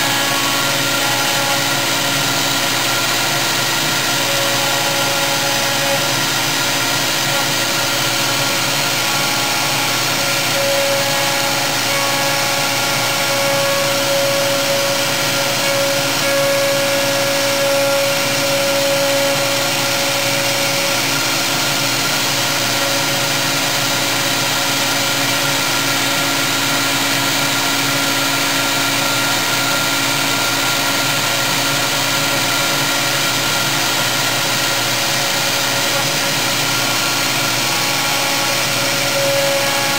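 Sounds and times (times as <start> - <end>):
end mill cutting block: 0.0 - 39.9
router spindle whine: 0.0 - 39.9.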